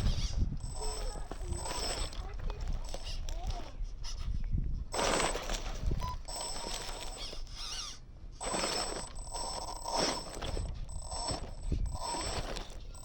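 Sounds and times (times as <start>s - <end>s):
electric motor whining: 0.0s - 4.3s, 4.9s - 13.0s.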